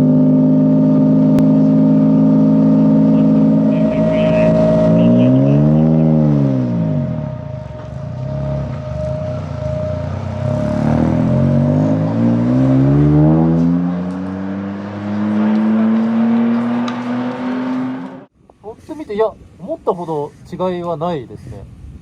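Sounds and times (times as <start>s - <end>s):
engine running: 0.0s - 18.3s.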